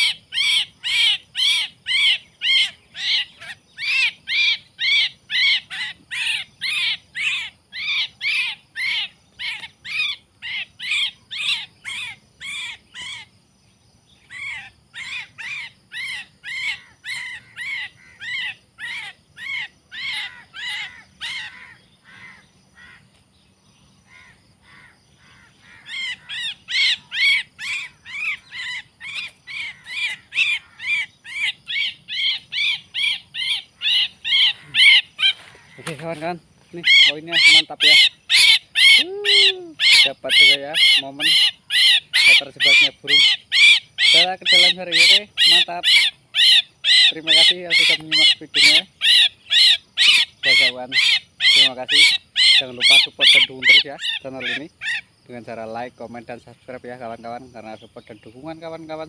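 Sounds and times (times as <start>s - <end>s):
bird harsh cries: 0.0s - 13.4s, 14.1s - 55.9s.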